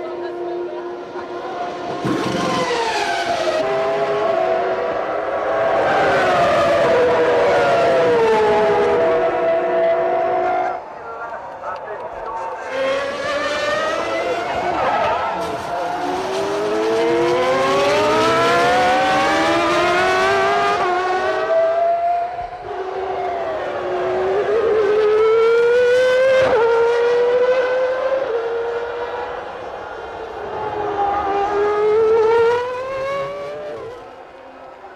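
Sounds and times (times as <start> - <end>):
racing car engine at full throttle: 0.0 - 34.9.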